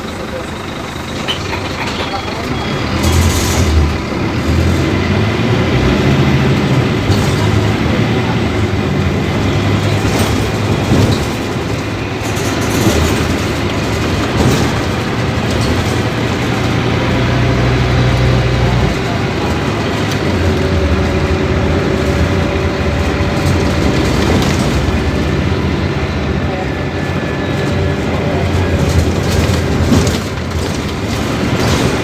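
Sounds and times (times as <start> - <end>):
bus diesel engine running: 0.0 - 32.0
road and body rumble: 0.0 - 32.0.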